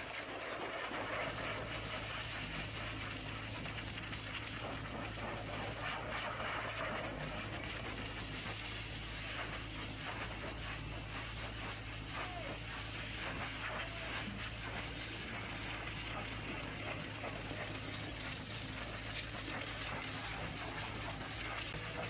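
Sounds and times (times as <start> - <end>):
pressure washer spraying metal: 0.0 - 22.0.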